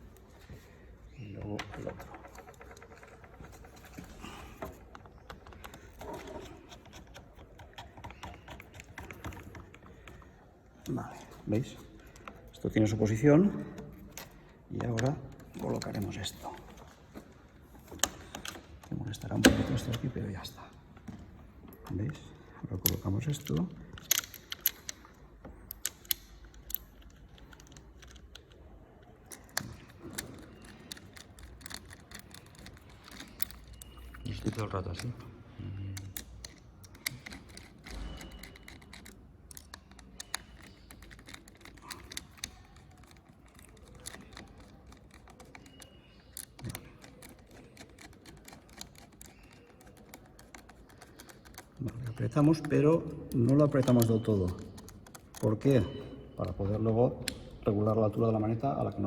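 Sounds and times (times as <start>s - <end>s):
small hard parts clicking: 0.0s - 20.2s, 21.8s - 57.6s.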